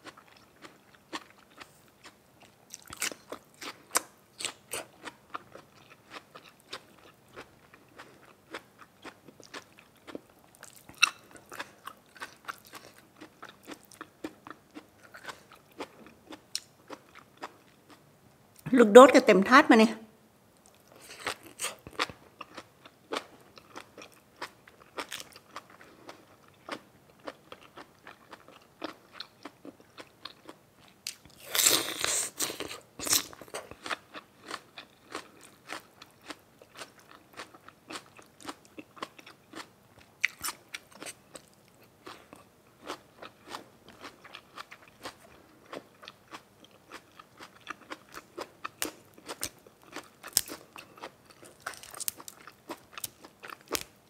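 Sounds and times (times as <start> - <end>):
chewing crunchy food: 0.0 - 18.0, 20.6 - 54.0.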